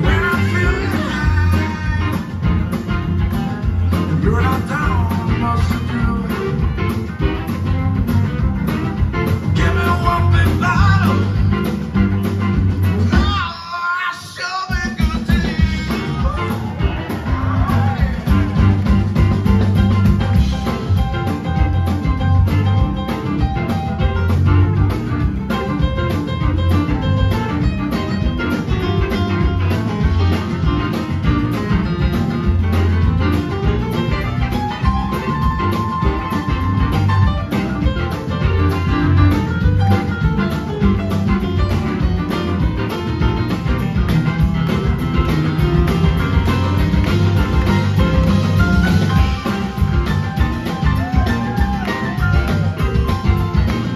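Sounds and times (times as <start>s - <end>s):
electric guitars: 0.0s - 13.4s, 15.0s - 53.9s
drums keeping a steady beat: 0.0s - 13.7s, 14.3s - 53.9s
bass guitar: 0.0s - 53.9s.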